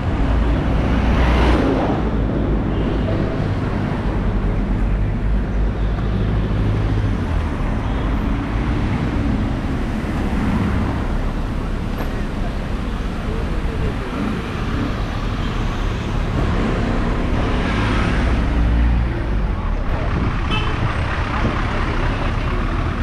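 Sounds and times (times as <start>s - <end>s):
city bus passing: 0.0s - 23.0s
traffic of cars and motorbikes: 0.0s - 23.0s.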